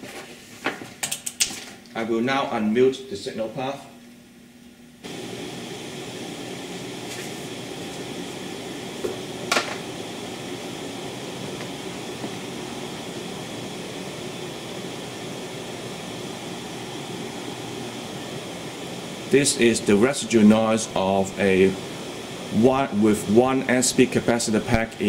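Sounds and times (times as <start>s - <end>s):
steady amplifier hiss: 0.0s - 25.0s
faint hum: 1.8s - 25.0s.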